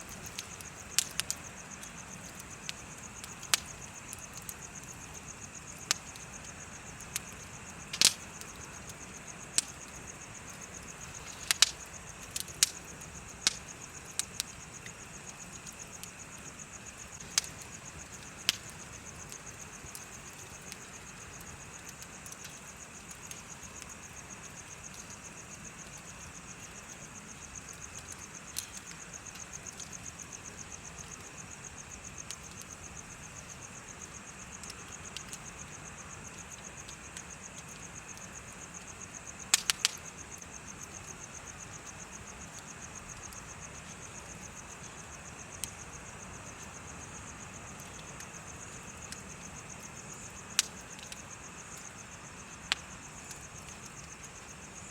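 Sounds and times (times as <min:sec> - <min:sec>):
bonfire crackling and popping: 0:00.0 - 0:54.9
insects chirping: 0:00.0 - 0:54.9.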